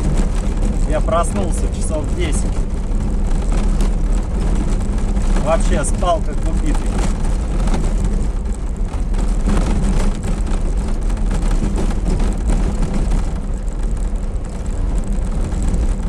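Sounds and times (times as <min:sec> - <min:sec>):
body rattles and knocks: 0:00.0 - 0:16.0
van engine and road drone: 0:00.0 - 0:16.0.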